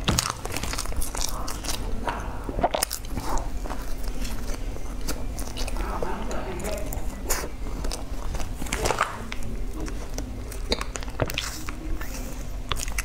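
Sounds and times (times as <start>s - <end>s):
person chewing bread: 0.0s - 13.0s.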